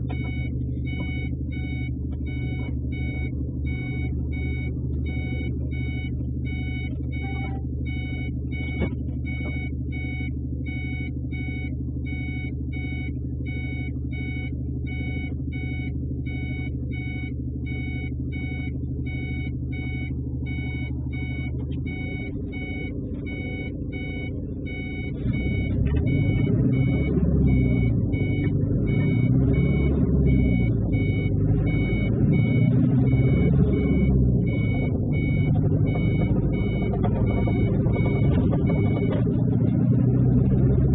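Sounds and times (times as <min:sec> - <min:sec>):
truck engine rumbling: 0:00.0 - 0:40.9
high electronic beeps: 0:00.1 - 0:40.9.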